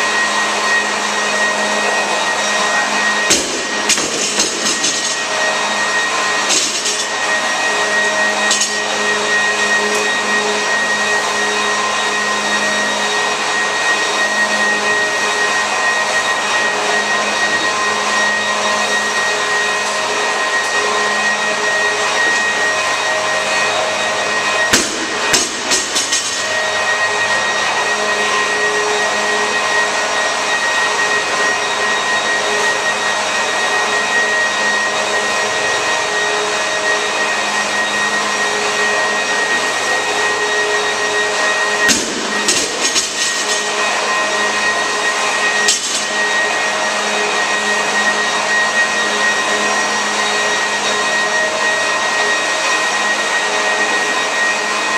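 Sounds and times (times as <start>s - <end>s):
drum fan whirring: 0.0s - 54.9s.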